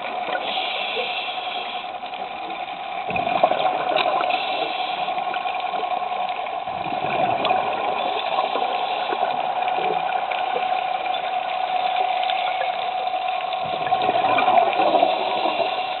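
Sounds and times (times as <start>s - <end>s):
faint crackles: 0.0s - 16.0s
underwater noise: 0.0s - 16.0s.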